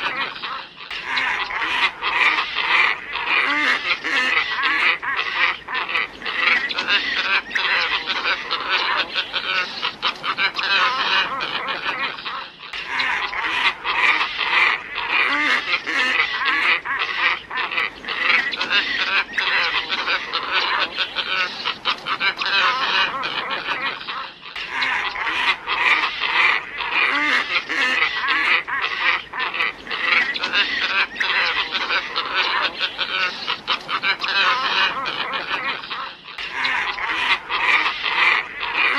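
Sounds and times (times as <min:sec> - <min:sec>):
flock of birds calling: 0:00.0 - 0:38.9.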